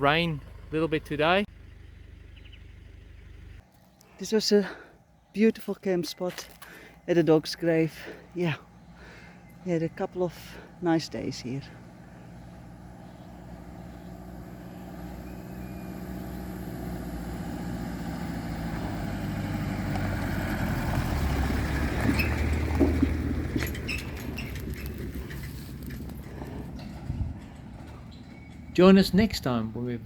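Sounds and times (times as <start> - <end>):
car engine and tyres: 0.0 - 30.0.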